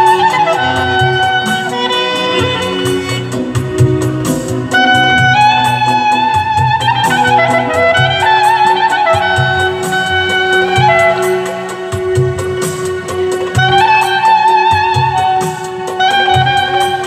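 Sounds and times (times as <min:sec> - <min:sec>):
clarinet melody: 0:00.0 - 0:17.0
electronic keyboard accompaniment: 0:00.0 - 0:17.0
steady drum beat: 0:00.0 - 0:17.0.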